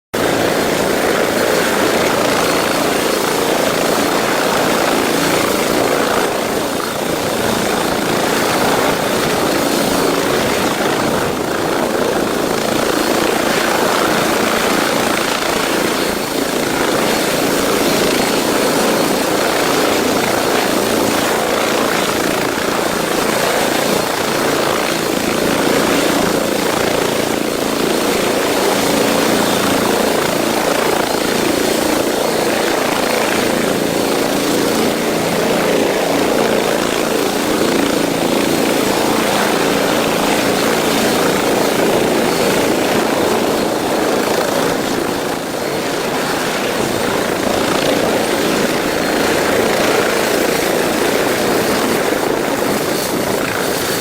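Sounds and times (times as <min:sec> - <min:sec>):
helicopter rotors and engines: 0:00.2 - 0:54.0.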